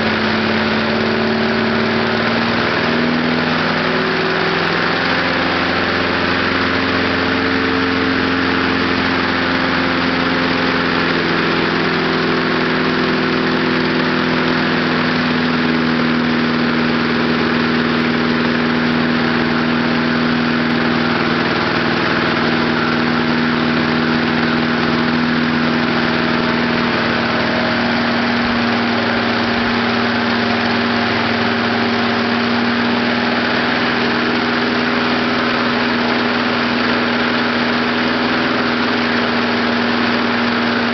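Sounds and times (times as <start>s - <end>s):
small lawnmower engine running: 0.0s - 40.9s.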